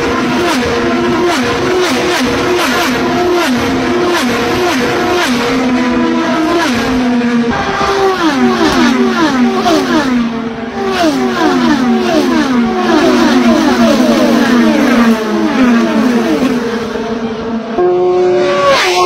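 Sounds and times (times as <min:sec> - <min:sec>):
race cars passing at full speed: 0:00.0 - 0:19.0.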